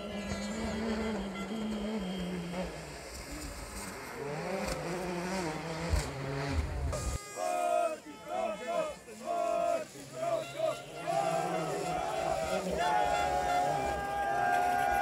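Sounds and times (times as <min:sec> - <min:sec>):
rally car engine revving: 0:00.0 - 0:07.8, 0:08.4 - 0:15.0.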